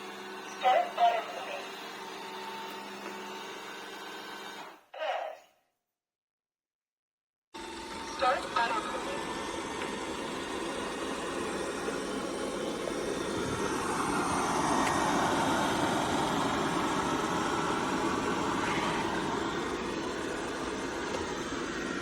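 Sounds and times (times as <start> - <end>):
robot vacuum motor whir: 0.0 - 4.8, 8.9 - 22.0.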